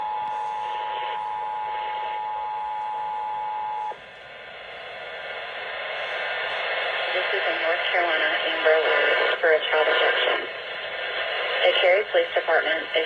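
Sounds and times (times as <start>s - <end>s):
faint radio hiss: 0.0s - 13.0s.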